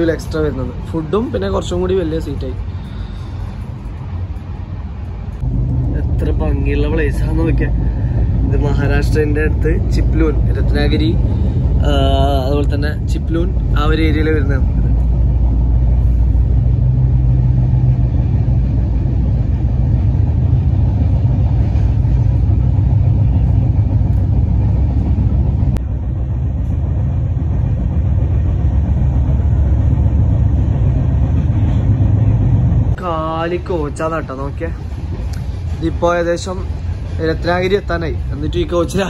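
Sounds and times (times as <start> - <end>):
train rumbling at speed: 0.0 - 39.0.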